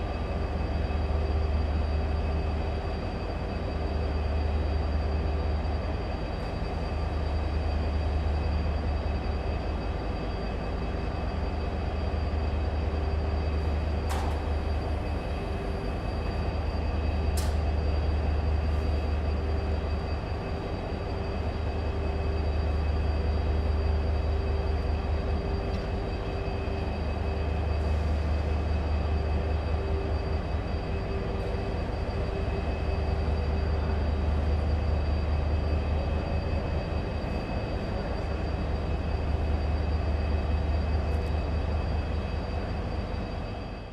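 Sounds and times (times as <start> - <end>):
train engine rumble and whine: 0.0 - 43.9.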